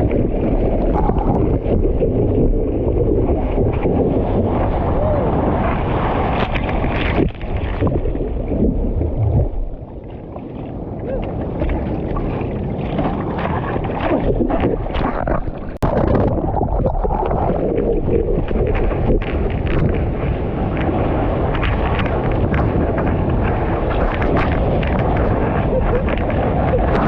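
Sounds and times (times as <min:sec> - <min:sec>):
surf rushing and sloshing: 0:00.0 - 0:27.0
wind buffeting microphone: 0:00.0 - 0:27.0.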